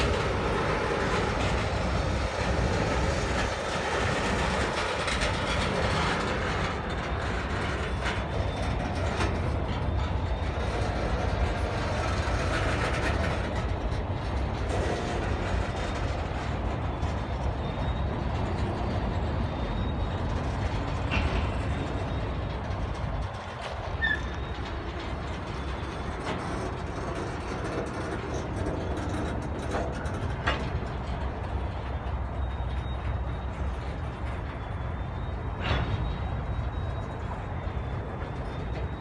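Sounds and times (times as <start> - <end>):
freight train wheels rumbling on rails: 0.0 - 39.0.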